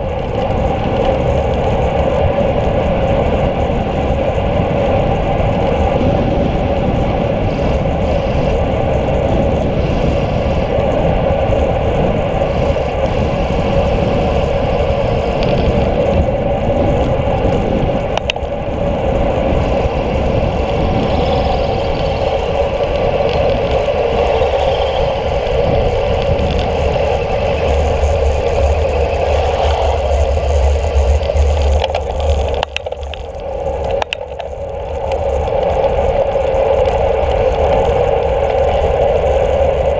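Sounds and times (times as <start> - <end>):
bicycle tyre hum on asphalt: 0.0 - 39.9
wind rushing on camera: 0.0 - 39.9.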